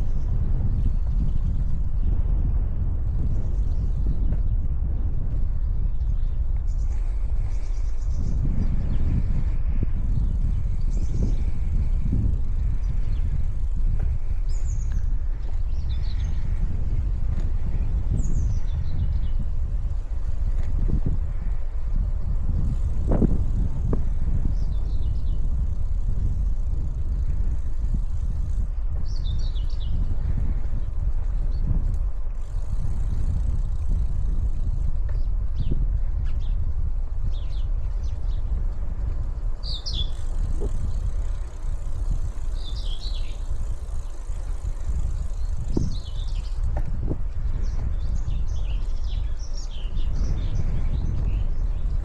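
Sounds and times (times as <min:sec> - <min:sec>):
bicycle rolling noise: 0:00.0 - 0:52.0
small birds chirping: 0:00.0 - 0:52.0
wind buffeting microphone: 0:00.0 - 0:52.0.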